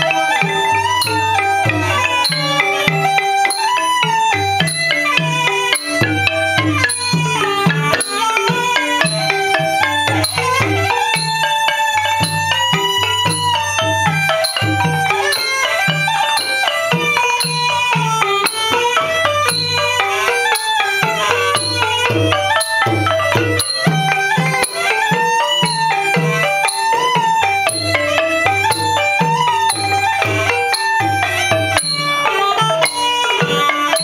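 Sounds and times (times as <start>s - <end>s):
light percussion: 0.0s - 34.0s
reedy wind instrument melody: 0.0s - 34.0s.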